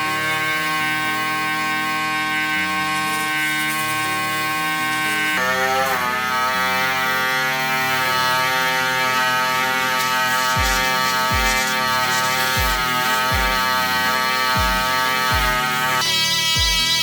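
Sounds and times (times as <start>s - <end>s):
background music: 0.0s - 17.0s
small power tool whining: 0.0s - 17.0s.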